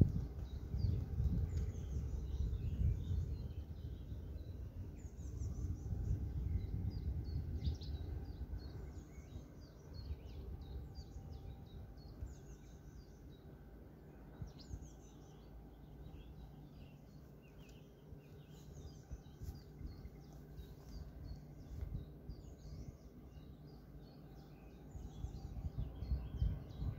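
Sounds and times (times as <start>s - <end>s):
birds chirping: 0.0s - 26.9s
low uneven rumble: 0.0s - 26.9s.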